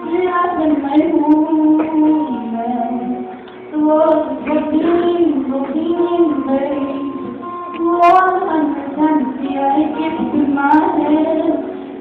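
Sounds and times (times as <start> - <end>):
woman singing: 0.0 - 12.0.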